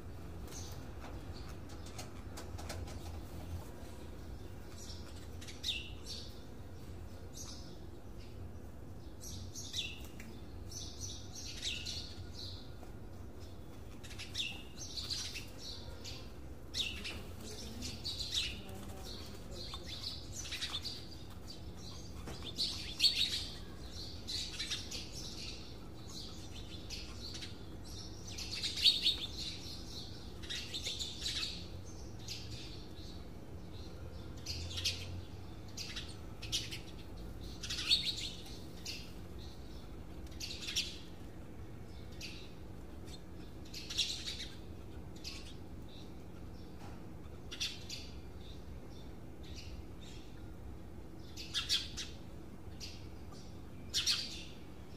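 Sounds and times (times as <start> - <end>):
birds chirping: 0.0 - 54.9
faint low hum: 0.0 - 54.9.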